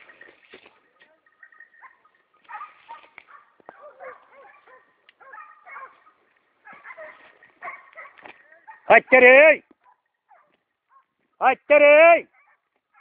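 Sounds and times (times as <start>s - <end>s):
dogs yelping and barking: 1.2s - 11.3s, 12.3s - 13.0s.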